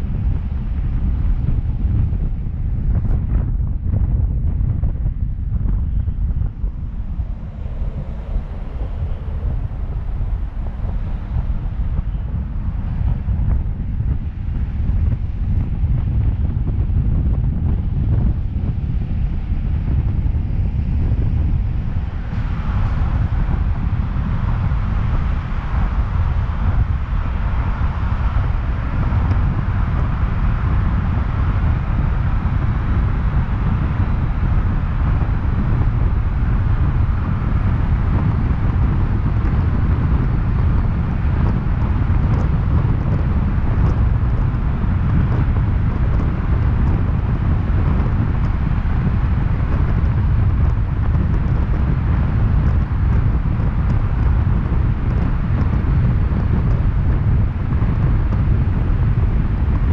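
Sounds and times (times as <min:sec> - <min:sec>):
tyre and road noise: 0:00.0 - 0:59.9
wind buffeting microphone: 0:00.0 - 0:59.9.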